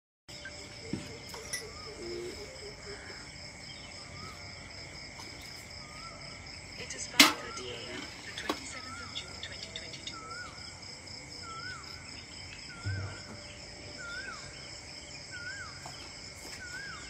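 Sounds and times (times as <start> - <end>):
crickets trilling: 0.3 - 17.0.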